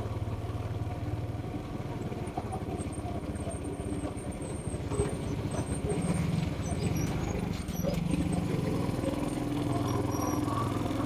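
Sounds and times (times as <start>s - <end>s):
scooter engines puttering: 2.0s - 11.0s.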